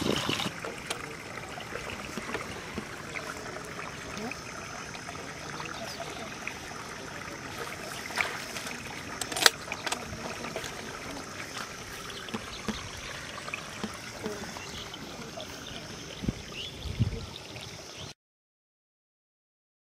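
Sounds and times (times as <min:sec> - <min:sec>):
shallow water trickling: 0:00.0 - 0:18.1.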